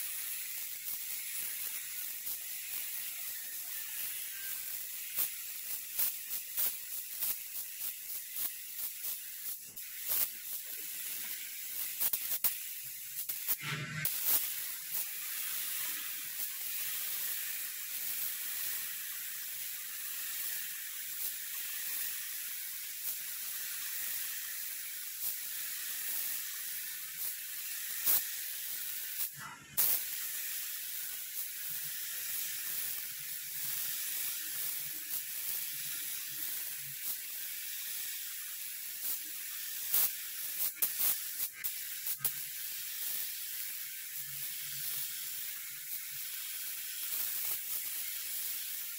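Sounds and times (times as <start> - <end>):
paint spray gun hissing: 0.0 - 48.9.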